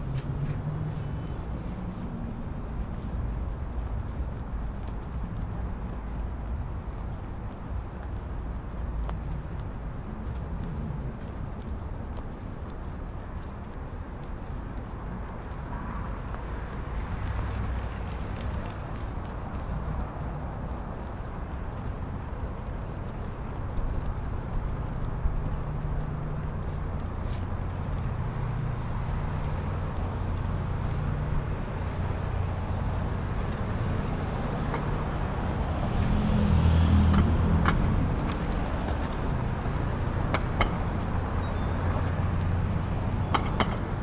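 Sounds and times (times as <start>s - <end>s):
street traffic rumble: 0.0s - 44.0s
vehicle passing: 8.6s - 44.0s.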